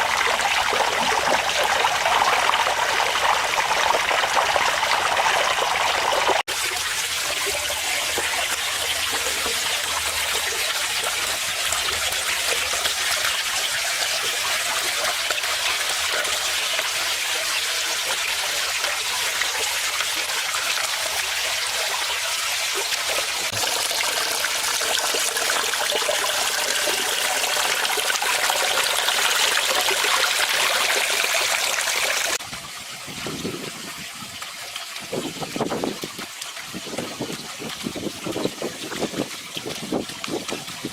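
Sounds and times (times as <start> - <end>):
waterfall splashing into pond: 0.0 - 40.9.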